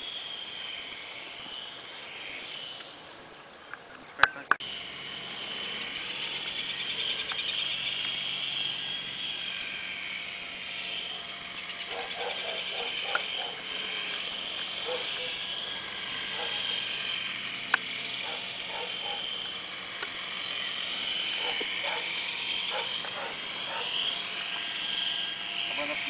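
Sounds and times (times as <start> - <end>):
toy helicopter whine: 0.0 - 26.0.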